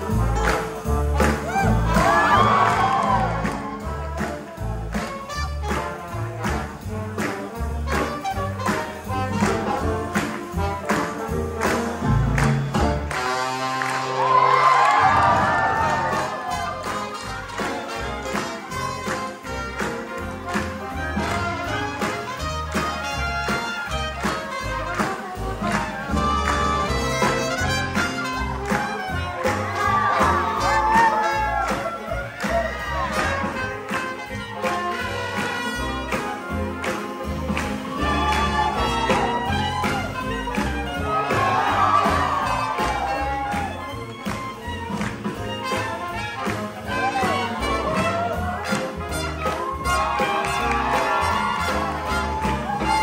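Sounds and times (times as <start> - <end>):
brass playing melody: 0.0 - 53.0
swing band playing: 0.0 - 53.0.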